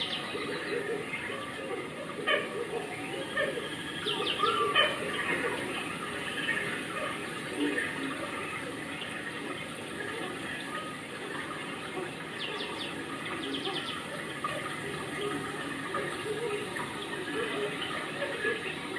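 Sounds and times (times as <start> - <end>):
rushing water-like noise: 0.0 - 18.9.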